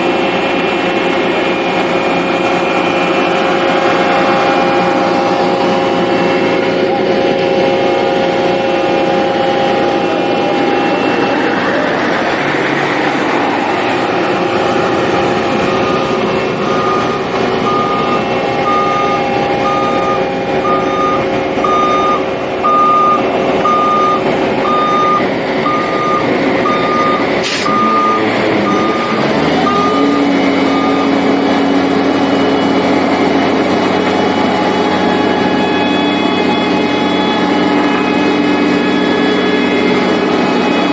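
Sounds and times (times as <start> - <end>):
heavy machinery running: 0.0 - 40.9
reversing alarm beeping: 3.3 - 11.6, 13.9 - 40.9.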